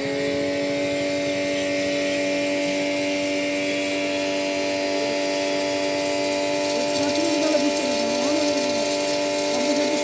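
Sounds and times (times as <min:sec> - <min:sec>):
pressure washer motor humming: 0:00.0 - 0:10.0
water jet hissing: 0:00.0 - 0:10.0.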